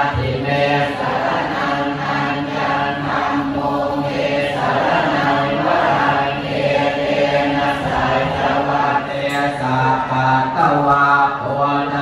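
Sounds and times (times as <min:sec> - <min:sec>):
many voices chanting in unison: 0:00.0 - 0:12.0.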